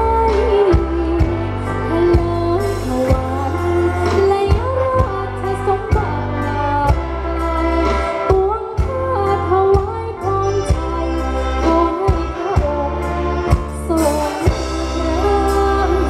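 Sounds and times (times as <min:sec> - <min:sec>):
person singing: 0:00.0 - 0:16.0
sustained bass: 0:00.0 - 0:16.0.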